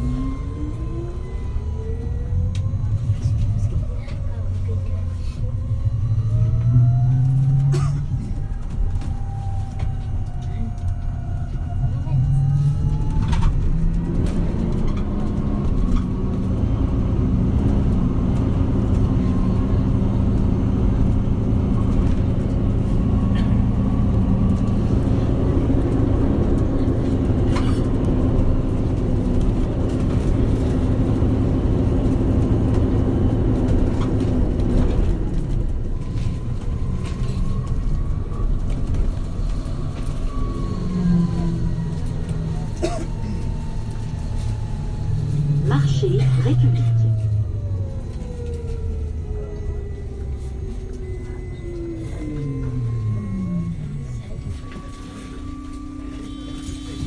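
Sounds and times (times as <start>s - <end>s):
bus engine drone: 0.0s - 57.0s
faint bus whine: 0.0s - 57.0s.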